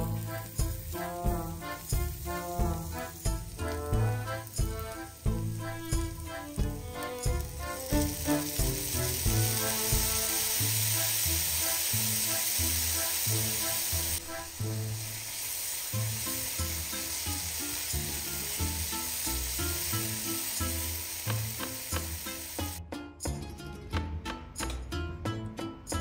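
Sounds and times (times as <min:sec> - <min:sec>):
background music with steady beat: 0:00.0 - 0:15.1, 0:16.0 - 0:26.0
mushrooms sizzling in frying pan: 0:00.0 - 0:22.8.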